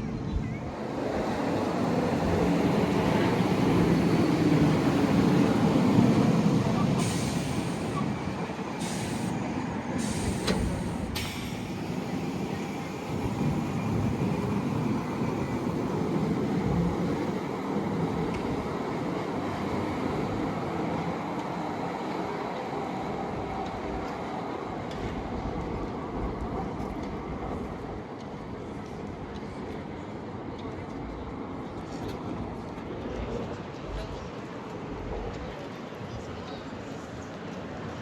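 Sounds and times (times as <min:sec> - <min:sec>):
tram rumbling on rails: 0:00.0 - 0:38.0.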